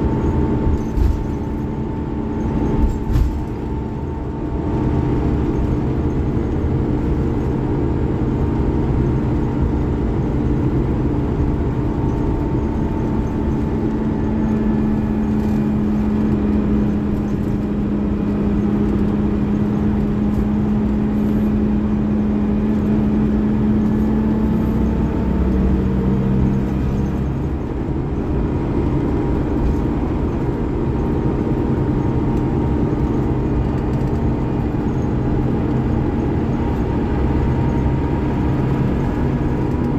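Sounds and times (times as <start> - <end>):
diesel bus engine droning: 0.0 - 39.9
engine whine: 0.0 - 39.9.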